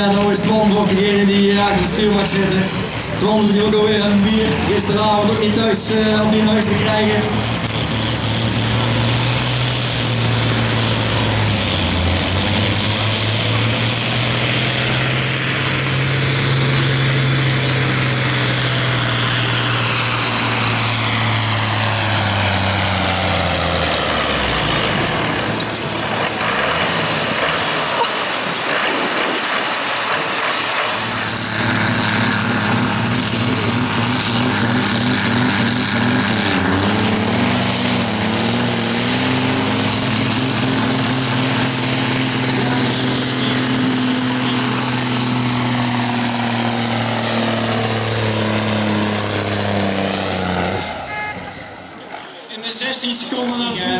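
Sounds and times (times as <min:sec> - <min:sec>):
falling whine: 0:00.0 - 0:53.9
tractor engine under full load: 0:00.0 - 0:53.9.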